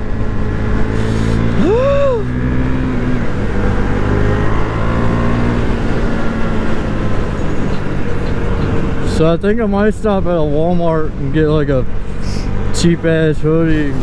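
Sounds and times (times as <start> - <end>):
road and wind noise: 0.0 - 14.0.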